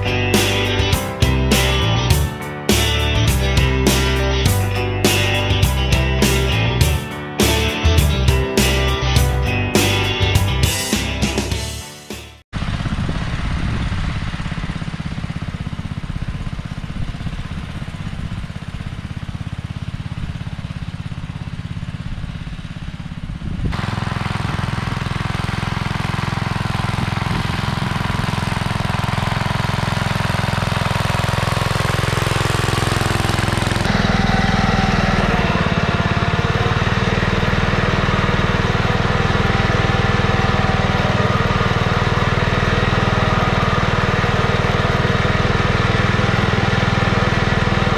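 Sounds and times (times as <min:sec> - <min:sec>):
garden tractor engine running: 0:00.0 - 0:11.8, 0:12.6 - 0:47.9.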